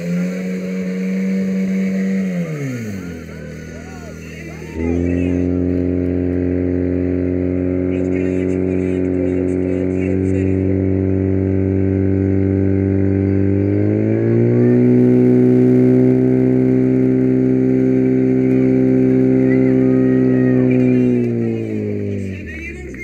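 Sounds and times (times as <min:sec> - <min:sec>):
fire pump engine revving high: 0:00.0 - 0:23.0.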